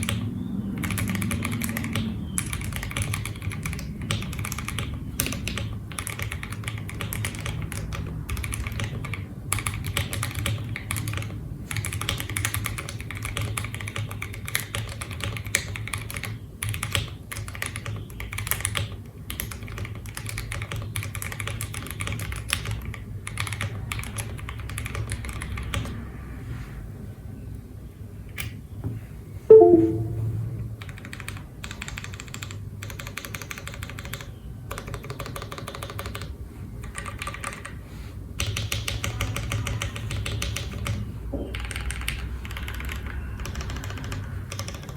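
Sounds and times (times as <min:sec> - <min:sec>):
mechanical keyboard typing: 0:00.0 - 0:26.0, 0:30.8 - 0:37.8, 0:38.4 - 0:44.9.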